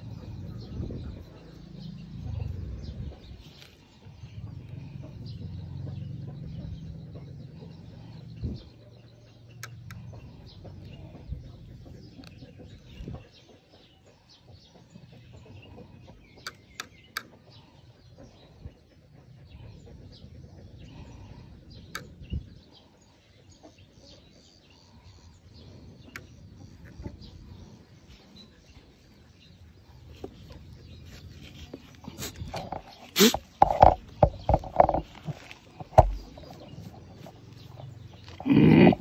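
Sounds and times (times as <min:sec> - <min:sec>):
chickens clucking: 0:00.0 - 0:39.0
small birds chirping: 0:00.0 - 0:39.0.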